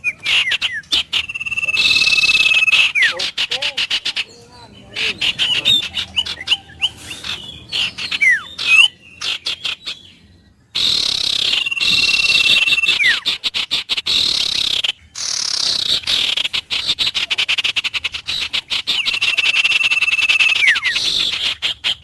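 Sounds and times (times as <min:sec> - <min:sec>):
birds whistling trills: 0:00.0 - 0:22.0.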